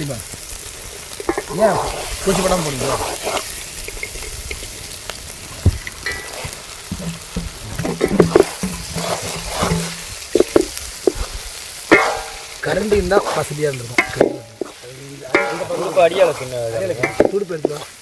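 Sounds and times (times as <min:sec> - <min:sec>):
fish frying in oil: 0:00.0 - 0:18.0
stirring scraping clicks: 0:01.1 - 0:05.2, 0:05.8 - 0:18.0.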